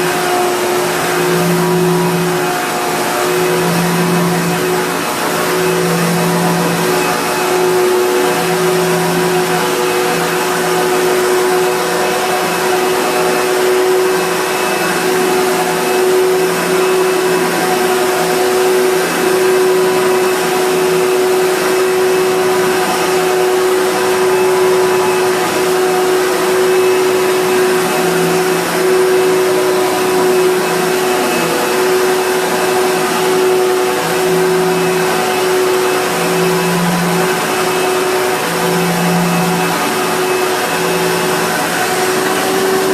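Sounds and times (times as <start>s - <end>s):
upright vacuum cleaner running: 0.0s - 42.9s.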